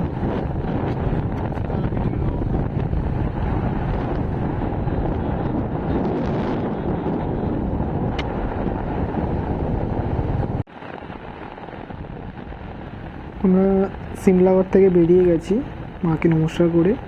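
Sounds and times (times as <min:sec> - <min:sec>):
motorcycle engine and road rumble: 0:00.0 - 0:17.0
wind buffeting microphone: 0:00.0 - 0:17.0.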